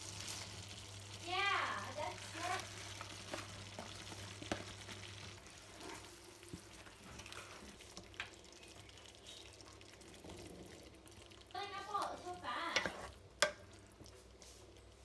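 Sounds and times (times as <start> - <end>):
sauce simmering in skillet: 0.0 - 15.0
spatula stirring spinach: 0.0 - 15.0.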